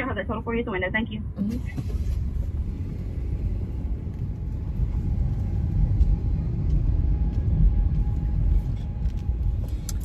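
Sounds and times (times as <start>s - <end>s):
car interior road and engine rumble: 0.0s - 10.0s.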